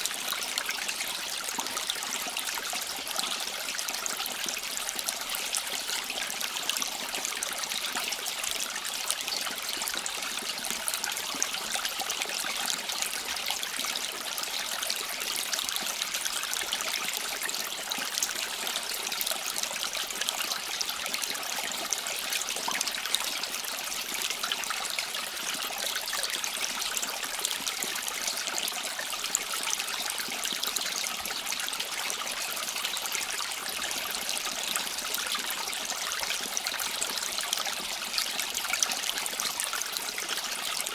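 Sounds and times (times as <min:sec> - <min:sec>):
stream trickling and babbling: 0:00.0 - 0:40.9.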